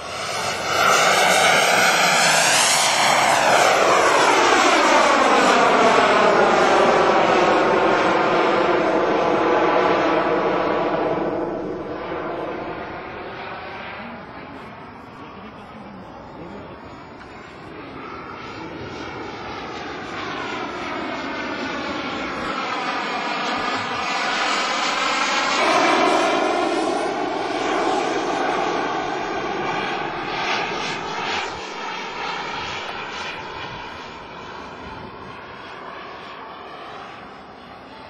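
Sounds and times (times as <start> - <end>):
model jet engine flying past: 0.0 - 38.0.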